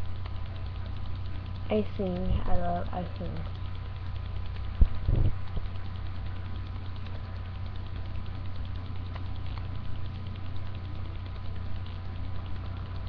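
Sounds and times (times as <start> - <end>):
faint clicks: 0.0 - 13.0
steady low hum: 0.0 - 13.0.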